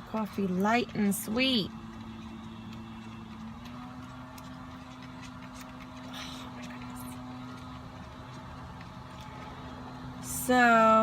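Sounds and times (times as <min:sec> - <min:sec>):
leaf blower droning: 0:00.0 - 0:11.0.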